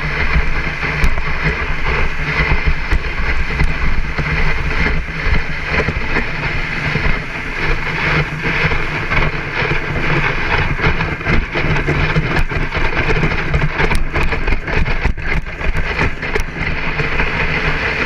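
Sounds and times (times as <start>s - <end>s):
sled clicking and rattling: 0.0s - 18.0s
sled runners scraping on snow: 0.0s - 18.0s.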